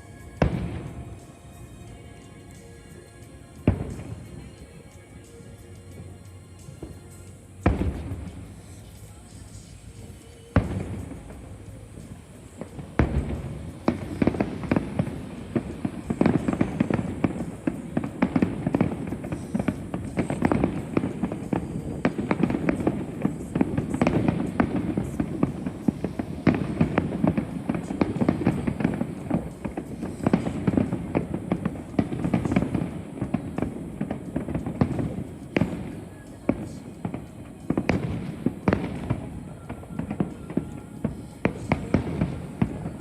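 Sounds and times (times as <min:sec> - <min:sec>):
fireworks bangs: 0:00.0 - 0:43.0.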